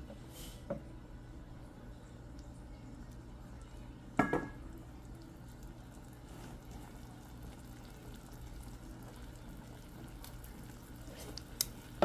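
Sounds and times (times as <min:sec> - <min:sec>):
broth bubbling in a pot: 0:00.7 - 0:12.0.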